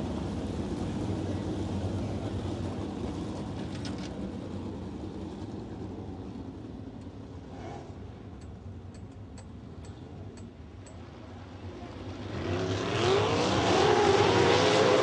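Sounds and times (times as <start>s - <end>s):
race car engine rumbling: 0.0s - 15.0s.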